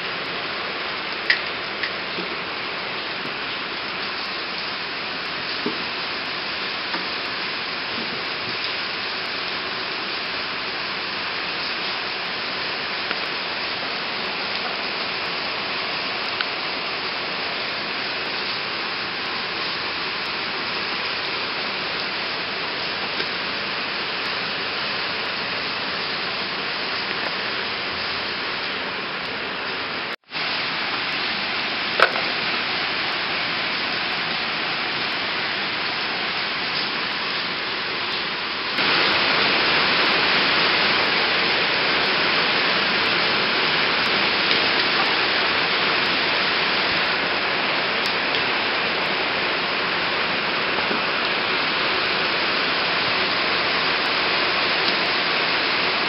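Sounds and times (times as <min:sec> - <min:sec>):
rain hissing: 0:00.0 - 0:56.0.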